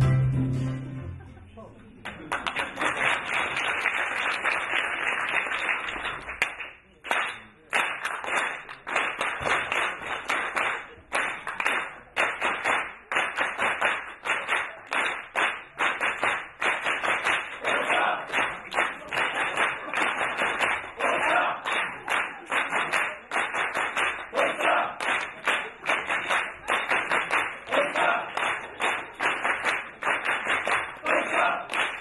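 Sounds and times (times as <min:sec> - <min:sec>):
audience applauding: 0:02.0 - 0:32.0
rhythmic clapping: 0:02.0 - 0:32.0.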